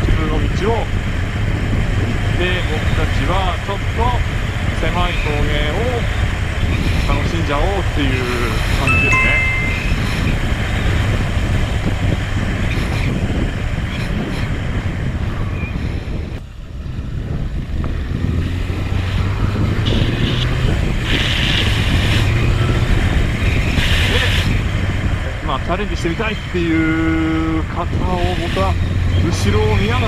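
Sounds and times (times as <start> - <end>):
motorcycle engine cruising: 0.0 - 30.0
wind noise on microphone: 0.0 - 30.0.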